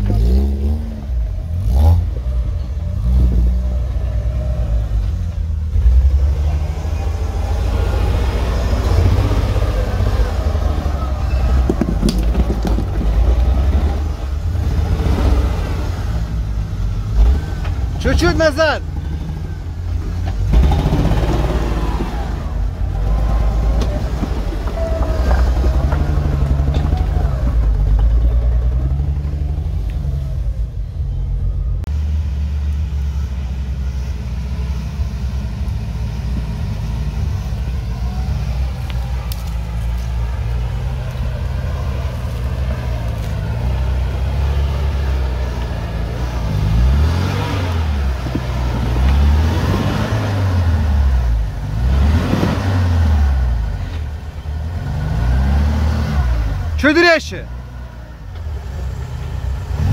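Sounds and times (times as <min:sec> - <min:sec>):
vehicle engine running and revving: 0:00.0 - 0:59.9.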